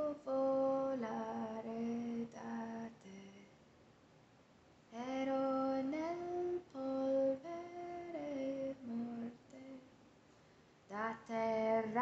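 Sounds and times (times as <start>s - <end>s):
woman singing unaccompanied: 0.0s - 3.6s, 4.9s - 10.0s, 10.9s - 12.0s.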